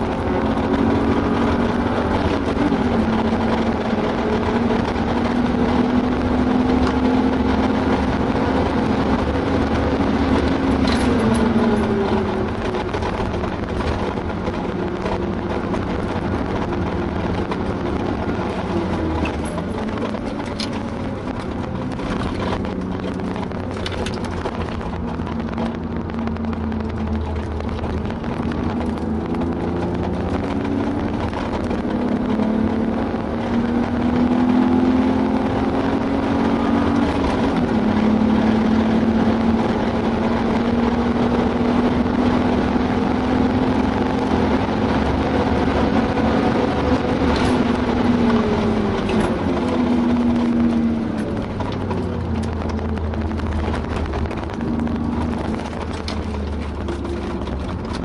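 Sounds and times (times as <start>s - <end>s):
car engine accelerating: 0.0s - 58.0s
wind noise: 0.0s - 58.0s.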